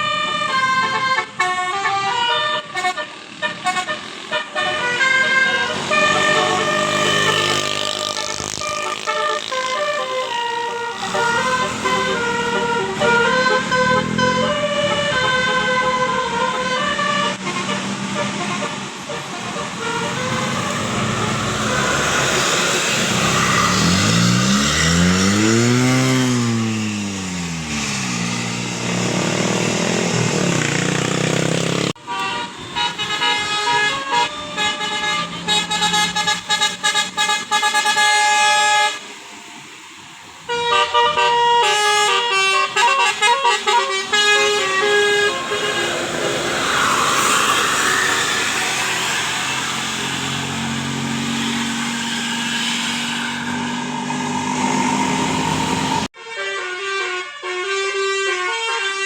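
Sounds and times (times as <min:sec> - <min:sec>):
musical bus horns playing tune: 0:00.0 - 0:26.8, 0:31.5 - 0:39.6, 0:40.3 - 0:59.0.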